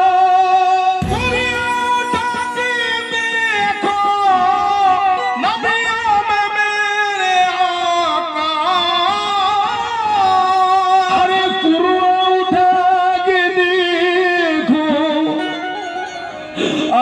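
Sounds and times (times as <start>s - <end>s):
man singing long notes: 0.0s - 15.8s
harmonium melody: 0.0s - 17.0s.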